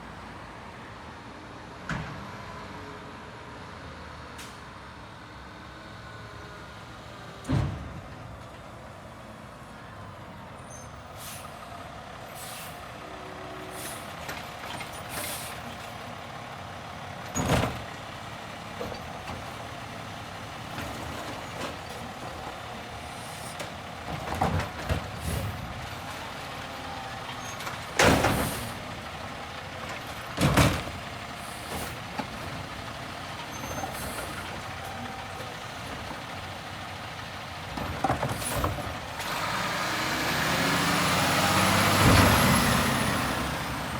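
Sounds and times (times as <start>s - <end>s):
garbage truck running: 6.2s - 43.9s.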